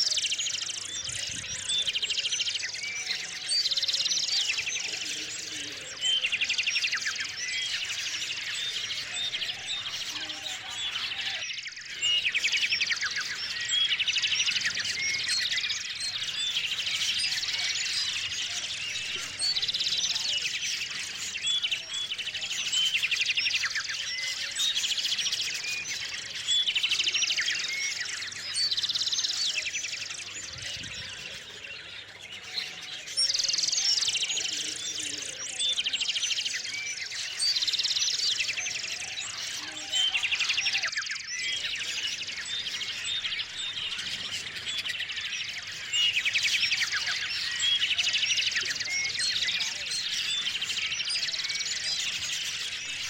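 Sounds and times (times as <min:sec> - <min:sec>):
loud trilled birdsong: 0:00.0 - 0:53.0
songbirds chirping: 0:00.0 - 0:53.0.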